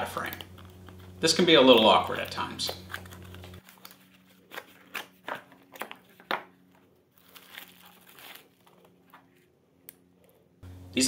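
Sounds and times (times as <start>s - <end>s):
plastic mailer crinkling: 0.1s - 9.5s.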